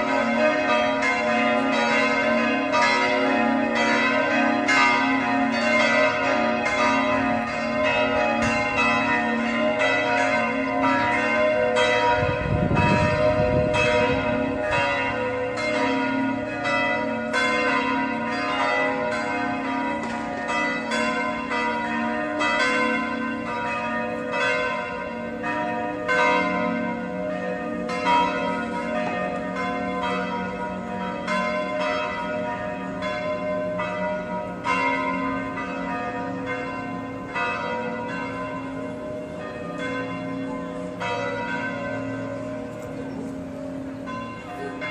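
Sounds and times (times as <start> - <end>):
church bells ringing: 0.0 - 44.9.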